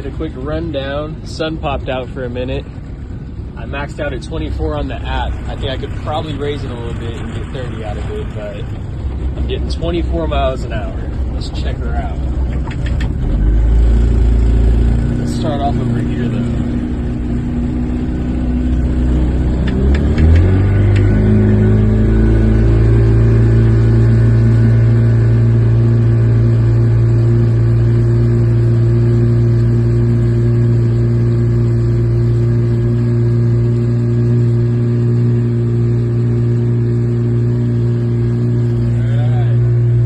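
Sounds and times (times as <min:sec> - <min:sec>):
outboard motor running at high throttle: 0:00.0 - 0:40.0.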